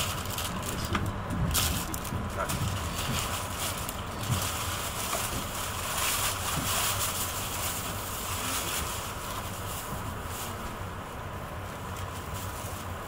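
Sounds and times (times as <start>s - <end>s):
high-speed train cabin noise: 0.0s - 13.0s.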